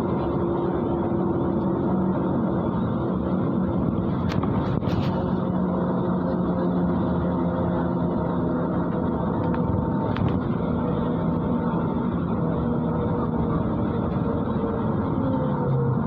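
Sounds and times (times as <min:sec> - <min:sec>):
bus diesel engine running: 0:00.0 - 0:16.0
road noise: 0:00.0 - 0:16.0.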